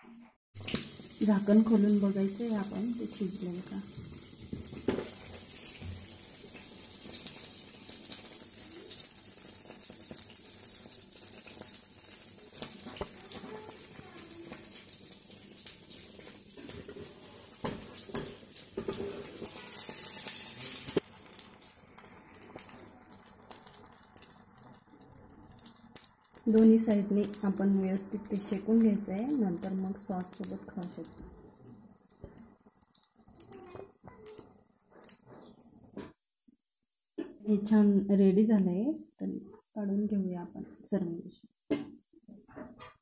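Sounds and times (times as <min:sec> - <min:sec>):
batter sizzling in oil: 0:00.6 - 0:36.0.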